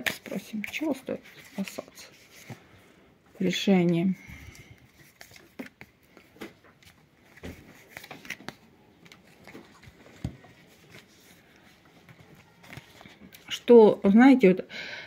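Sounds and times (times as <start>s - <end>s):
cards being shuffled: 0.0s - 2.6s, 3.8s - 13.6s.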